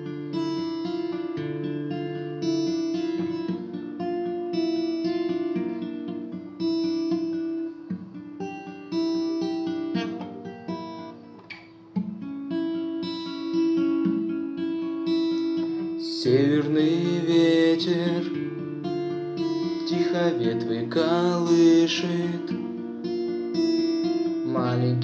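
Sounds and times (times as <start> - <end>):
fingerstyle guitar picking: 0.0 - 25.0.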